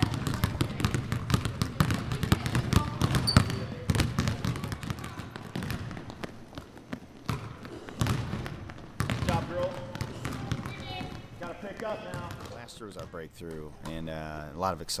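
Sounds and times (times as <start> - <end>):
basketballs bouncing on wooden floor: 0.0 - 14.0.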